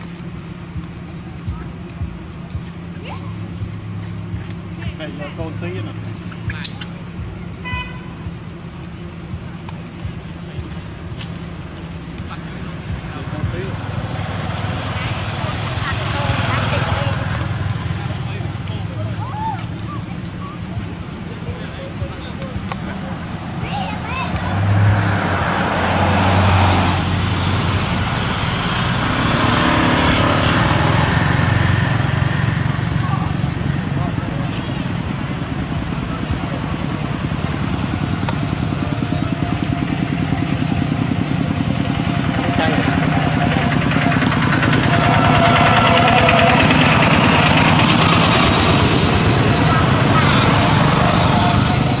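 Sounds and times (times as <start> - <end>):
vehicles driving past: 0.0 - 52.0.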